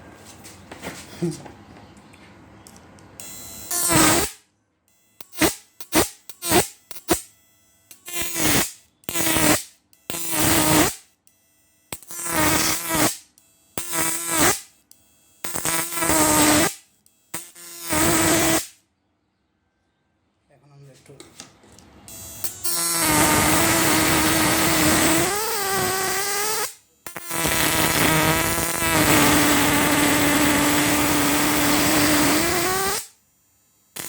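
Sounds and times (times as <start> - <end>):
high-voltage inverter buzzing: 2.4 - 18.9, 21.6 - 34.0.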